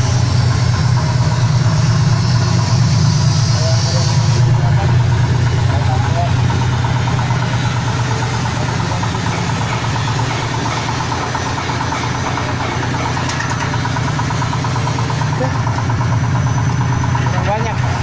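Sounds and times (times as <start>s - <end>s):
machine motor humming: 0.0s - 18.0s.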